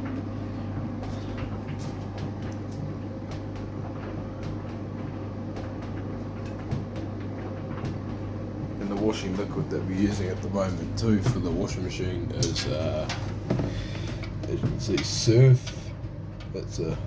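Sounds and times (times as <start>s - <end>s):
tumble dryer tumbling towels: 0.0s - 17.0s
washing machine tumbling: 0.0s - 17.0s.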